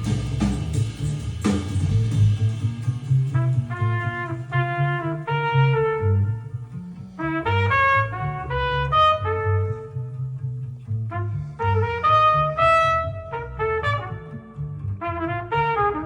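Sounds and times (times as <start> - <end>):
bass line: 0.0 - 16.0
brass lead melody: 0.0 - 16.0.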